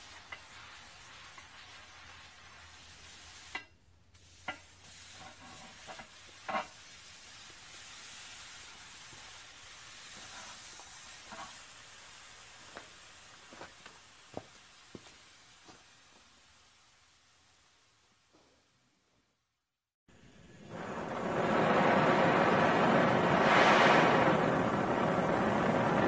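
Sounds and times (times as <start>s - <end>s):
torch flame hissing: 0.0s - 17.9s, 20.1s - 26.0s.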